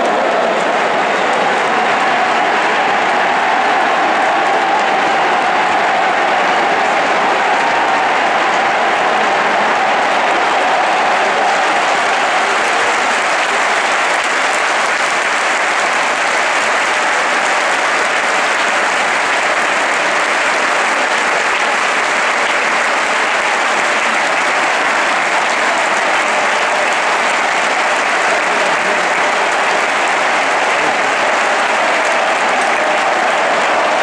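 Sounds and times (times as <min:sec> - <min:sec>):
crowd applauding: 0:00.0 - 0:34.0.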